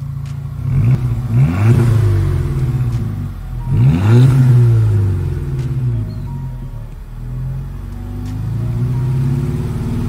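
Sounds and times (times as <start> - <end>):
car engine revving and misfiring: 0.0 - 10.0.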